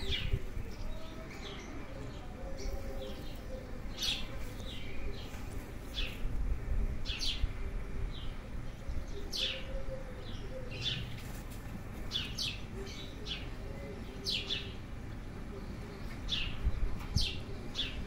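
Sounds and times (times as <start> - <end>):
small birds chirping: 0.0 - 6.4, 7.0 - 18.0.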